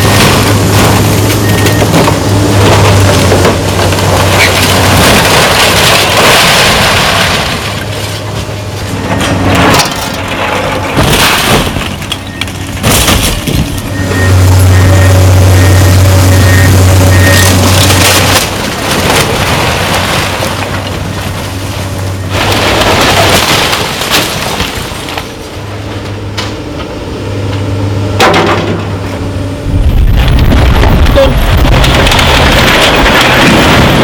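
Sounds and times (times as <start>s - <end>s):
excavator diesel engine humming: 0.0s - 5.9s, 7.4s - 23.7s, 24.8s - 34.0s
falling masonry crashing: 0.0s - 25.6s, 28.2s - 29.0s, 29.6s - 34.0s.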